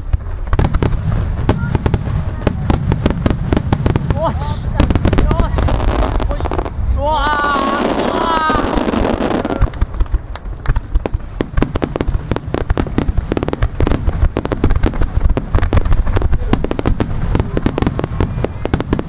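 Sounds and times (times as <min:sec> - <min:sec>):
firework crackling pops: 0:00.0 - 0:19.0
low rumble of bursting shells: 0:00.0 - 0:19.0.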